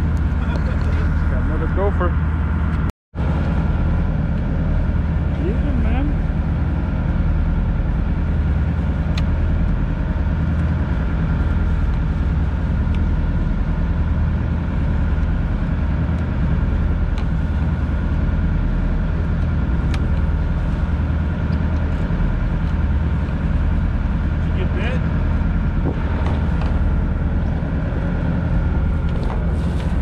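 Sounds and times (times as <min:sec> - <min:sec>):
boat engine idling: 0:00.0 - 0:30.0.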